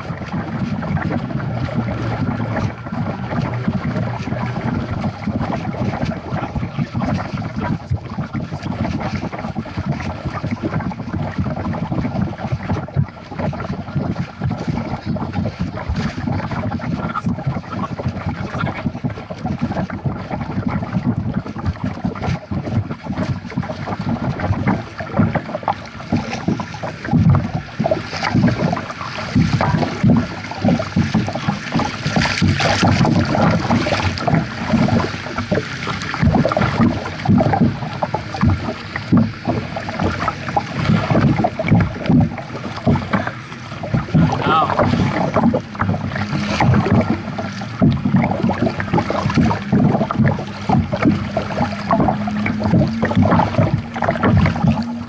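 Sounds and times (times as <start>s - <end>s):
water lapping and splashing: 0.0s - 55.0s
wind on microphone: 0.0s - 55.0s.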